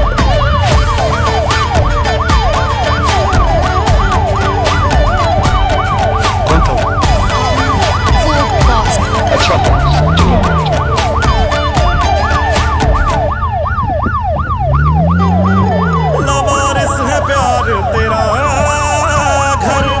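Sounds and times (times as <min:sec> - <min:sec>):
regular ticking beat: 0:00.0 - 0:20.0
yelping siren: 0:00.0 - 0:20.0.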